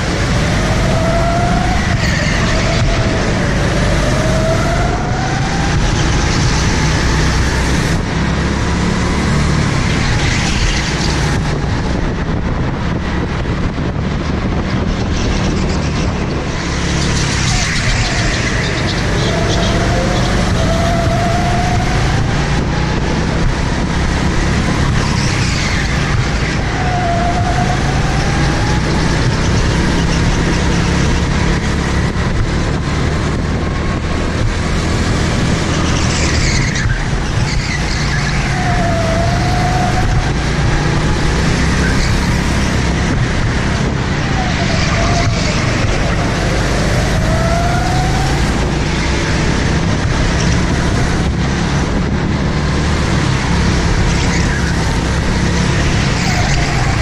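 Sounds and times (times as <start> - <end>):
go-kart engine accelerating: 0.0 - 57.0.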